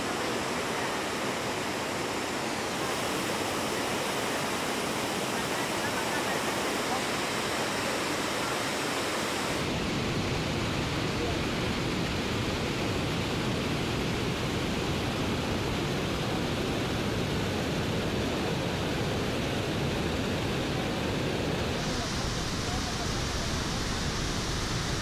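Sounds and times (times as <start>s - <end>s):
waterfall roar: 0.0s - 25.0s.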